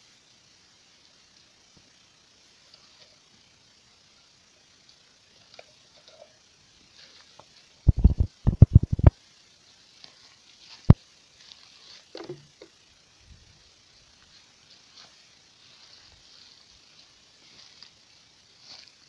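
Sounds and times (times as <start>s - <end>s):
faint crackly rustling: 0.9s - 19.0s.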